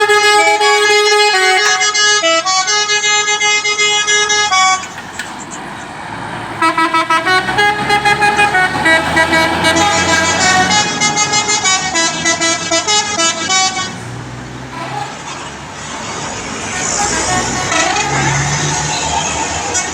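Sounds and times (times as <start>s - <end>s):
multi-tone bus air horns melody: 0.0s - 19.9s.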